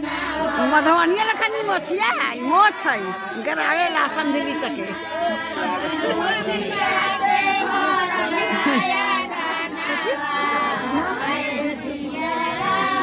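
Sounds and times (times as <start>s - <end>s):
crowd chatter: 0.0s - 13.0s
women singing with long held notes: 0.0s - 13.0s.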